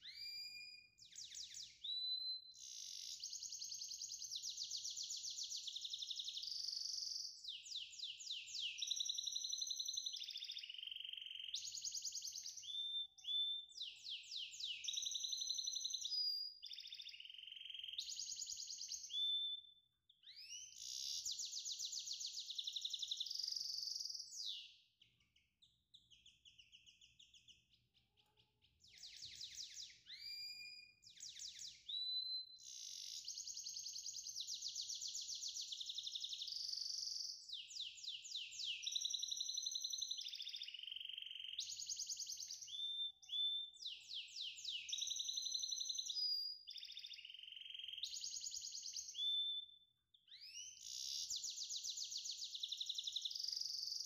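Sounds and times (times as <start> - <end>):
songbird singing trills: 0.0 - 54.0.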